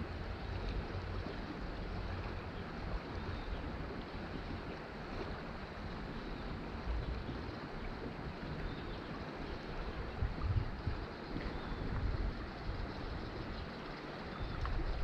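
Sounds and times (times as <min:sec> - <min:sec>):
creek water flowing: 0:00.0 - 0:15.0
wind rumble on microphone: 0:00.0 - 0:15.0.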